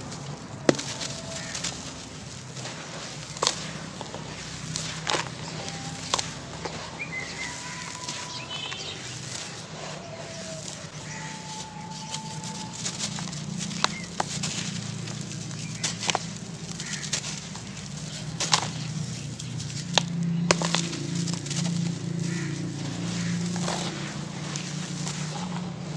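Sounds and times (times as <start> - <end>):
gritty rustling and crunching: 0.0 - 25.9.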